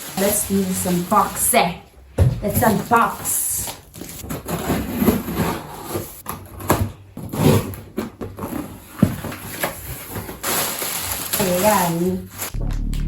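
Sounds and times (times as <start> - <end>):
packaging rustling: 0.0 - 1.8, 2.5 - 12.6.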